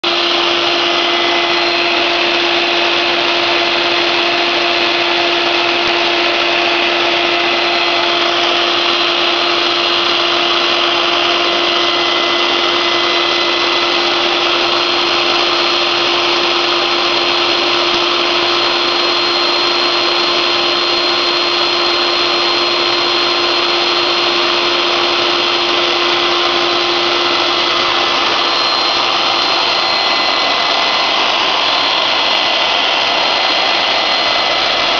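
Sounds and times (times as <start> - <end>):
router spindle whining: 0.0 - 34.9.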